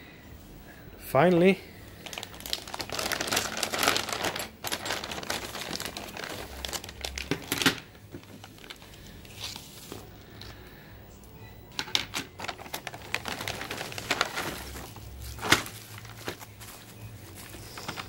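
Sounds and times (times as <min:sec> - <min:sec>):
plastic bag crinkling: 0:01.9 - 0:10.6, 0:11.8 - 0:18.0.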